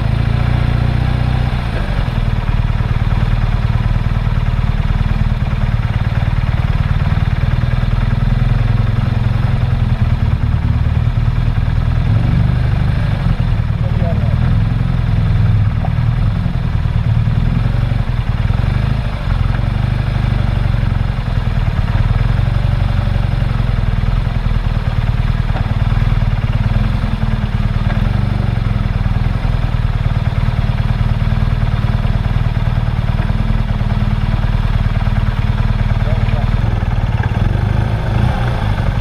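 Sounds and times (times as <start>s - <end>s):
motorcycle engine droning: 0.0s - 39.0s.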